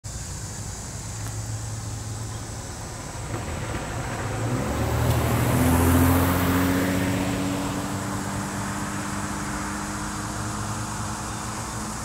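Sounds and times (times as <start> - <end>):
car driving past: 1.9 - 12.0.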